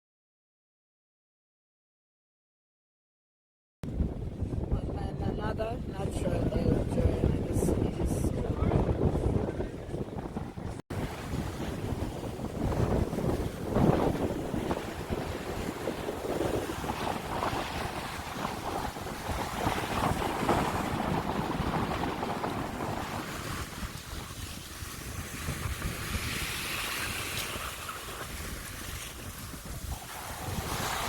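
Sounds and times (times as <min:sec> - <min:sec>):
wind buffeting microphone: 0:03.8 - 0:31.0
sea surf breaking on shore: 0:03.9 - 0:31.0.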